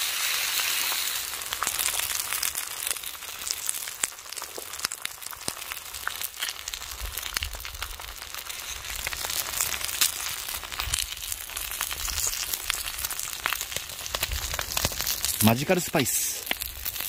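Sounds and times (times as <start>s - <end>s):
bacon and eggs sizzling in a pan: 0.0s - 17.0s.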